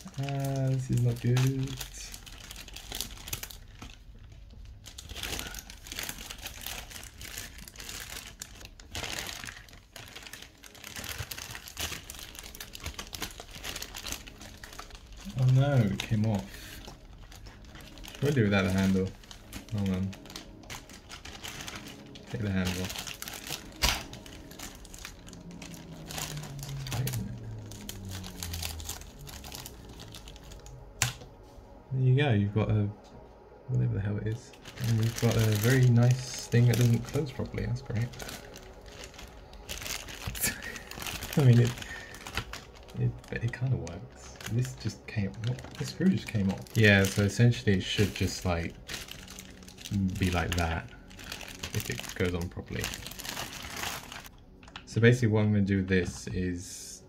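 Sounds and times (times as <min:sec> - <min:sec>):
plastic cover crinkling and rustling: 0:00.0 - 0:31.8, 0:34.2 - 0:55.1
low hum: 0:00.0 - 0:57.0.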